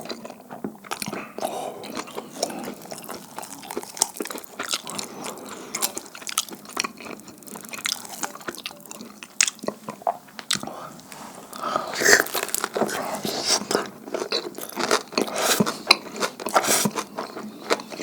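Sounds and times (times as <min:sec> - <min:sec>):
person chewing wetly: 0:00.0 - 0:18.0.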